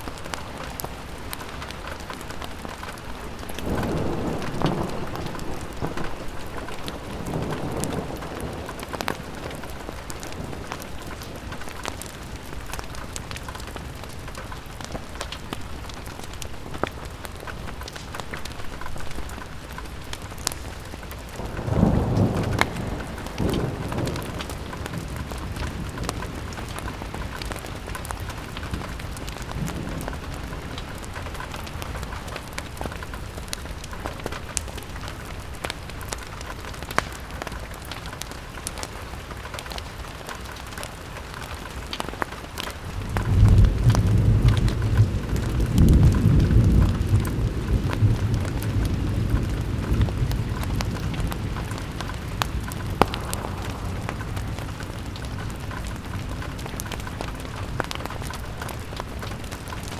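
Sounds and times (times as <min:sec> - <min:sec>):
thunder rumbling: 0:00.0 - 0:38.3, 0:40.7 - 0:59.9
rain on a window: 0:00.0 - 0:59.9.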